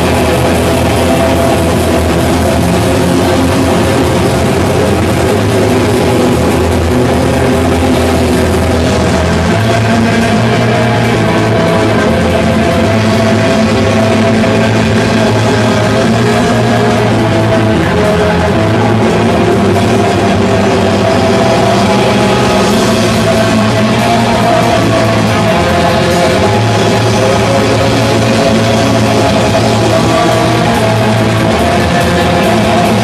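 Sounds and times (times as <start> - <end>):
rock music with distorted guitar: 0.0 - 33.0.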